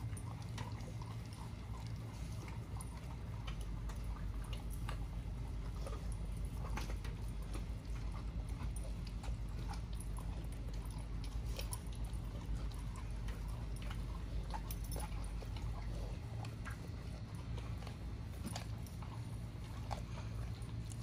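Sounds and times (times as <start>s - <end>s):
dogs crunching raw chicken: 0.0s - 21.0s.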